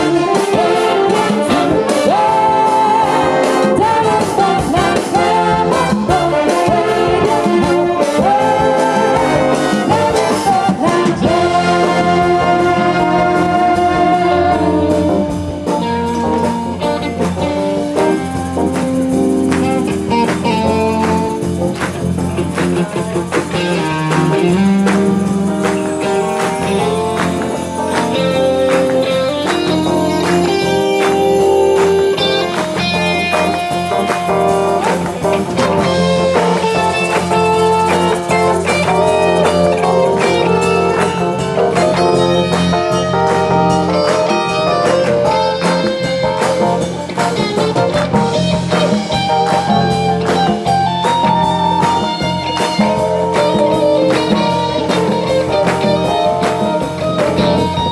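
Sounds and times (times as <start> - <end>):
big band playing blues: 0.0 - 57.9
guitar: 0.0 - 57.9
steady drum beat: 0.0 - 57.9.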